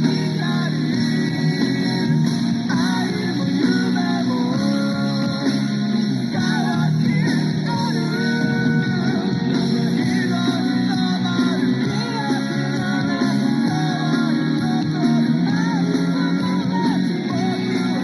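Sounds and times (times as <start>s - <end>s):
song with singing and band: 0.0s - 18.0s.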